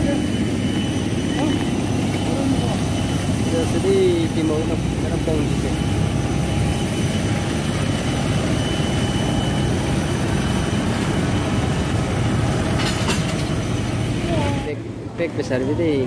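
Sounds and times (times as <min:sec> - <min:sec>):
faint high whine: 0:00.0 - 0:16.0
jet aircraft rumble: 0:00.0 - 0:16.0.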